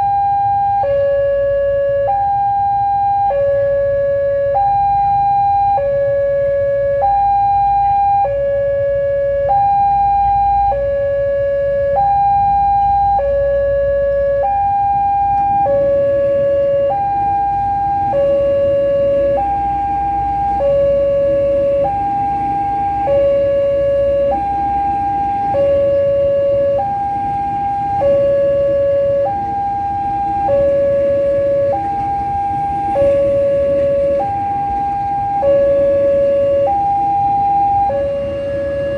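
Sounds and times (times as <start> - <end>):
two-tone warning alarm: 0.0 - 38.9.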